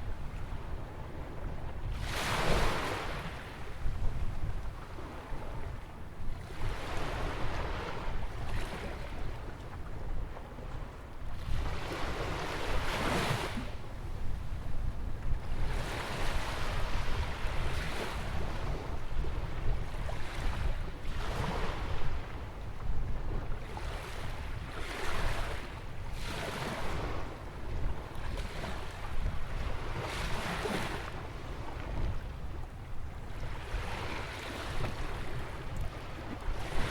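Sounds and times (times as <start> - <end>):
wind rumble on microphone: 0.0 - 36.9.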